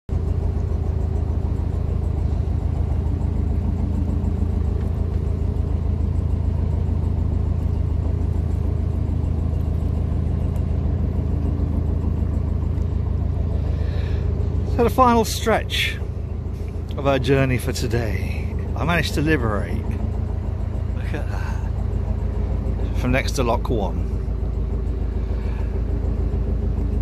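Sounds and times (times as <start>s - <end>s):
boat engine rumbling: 0.0s - 27.0s.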